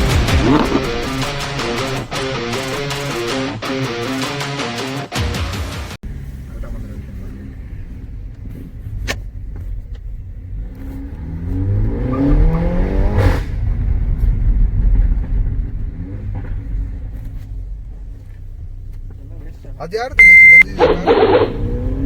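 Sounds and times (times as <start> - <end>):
car engine accelerating: 0.0 - 5.2, 6.0 - 22.0
exhaust crack: 0.0 - 22.0.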